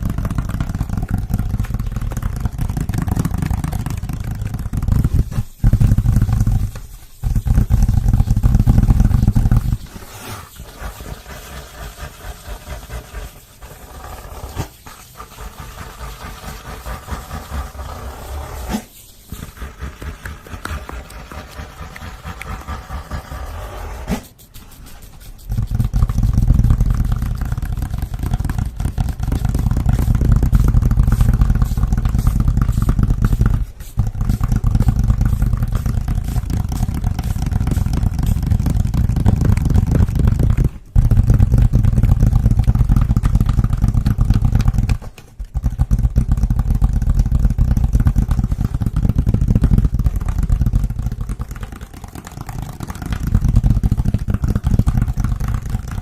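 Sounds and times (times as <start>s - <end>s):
hands scratching and rubbing: 0.0s - 56.0s.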